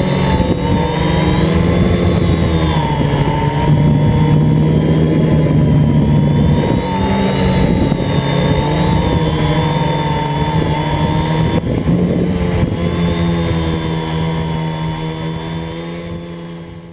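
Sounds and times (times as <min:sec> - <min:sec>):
drone propellers humming: 0:00.0 - 0:16.9.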